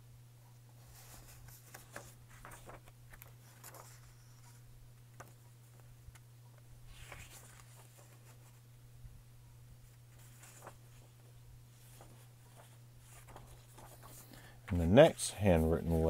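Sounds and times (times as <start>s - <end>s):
low steady hum: 0.0s - 16.0s
paper sheets rustling: 0.8s - 6.2s, 6.9s - 8.6s, 9.9s - 16.0s.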